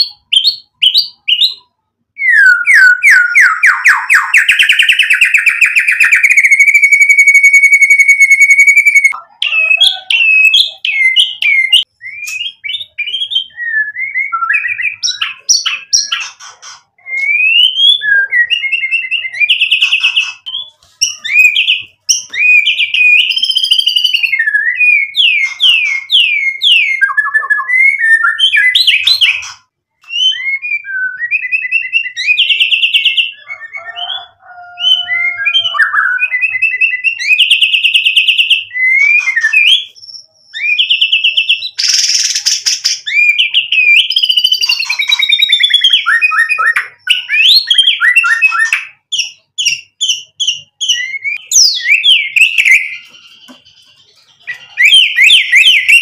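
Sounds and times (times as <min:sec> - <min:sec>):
songbird whistling and trilling: 0:00.0 - 0:56.0.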